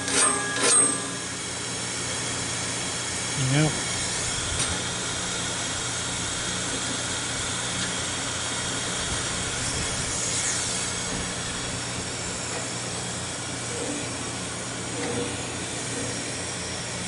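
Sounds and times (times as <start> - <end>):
pneumatic grinder running: 0.0 - 17.0.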